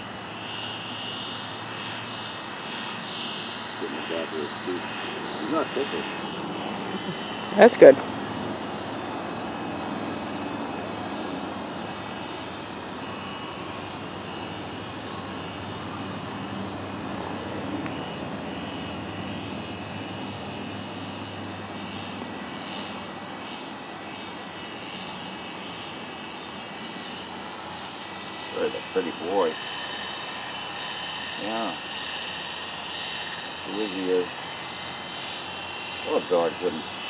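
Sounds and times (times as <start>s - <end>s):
electric clippers humming: 0.0s - 37.0s.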